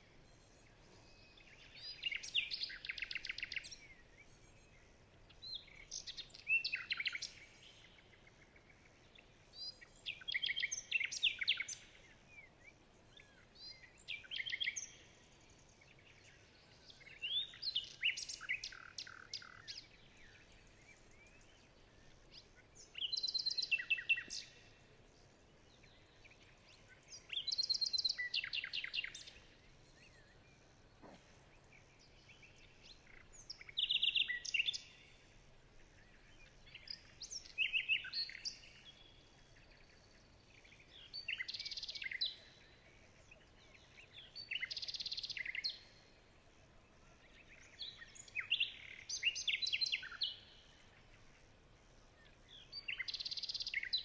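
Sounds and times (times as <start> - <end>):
faint outdoor background noise: 0.0 - 54.0
songbird singing: 0.0 - 54.0.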